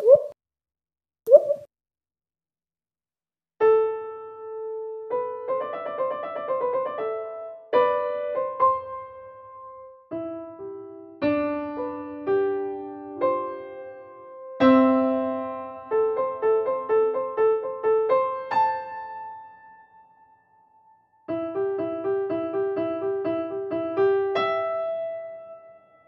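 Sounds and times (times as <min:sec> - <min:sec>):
piano-like keyboard music: 0:03.6 - 0:20.2, 0:21.3 - 0:26.0.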